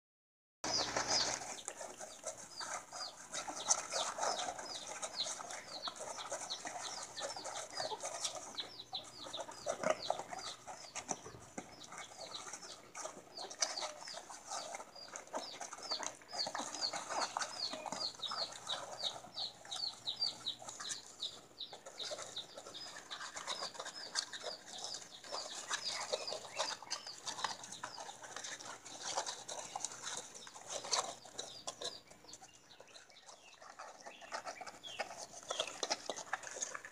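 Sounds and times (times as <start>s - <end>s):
fainter lower bird calls: 0.6s - 36.9s.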